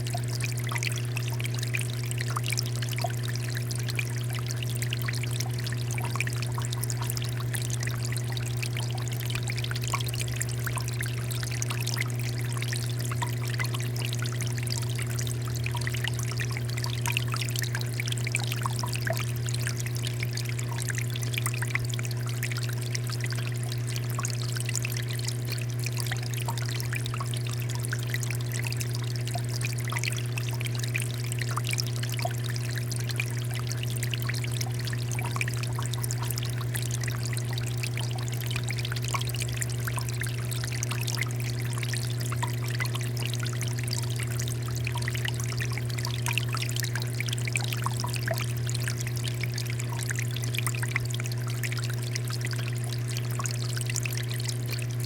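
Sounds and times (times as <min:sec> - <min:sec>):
fountain water pouring and trickling: 0:00.0 - 0:55.0
steady low hum: 0:00.0 - 0:55.0.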